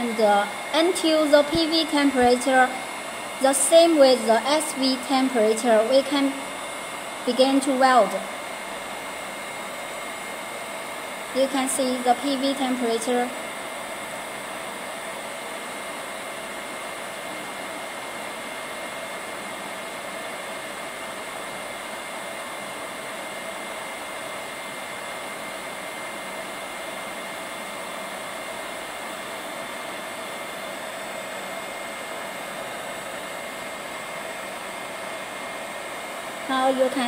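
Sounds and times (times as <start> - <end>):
blower rushing air with whine: 0.0 - 37.0.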